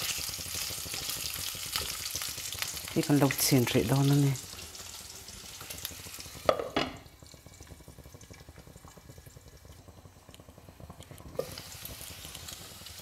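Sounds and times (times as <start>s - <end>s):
muffled sizzle and crackle: 0.0s - 13.0s.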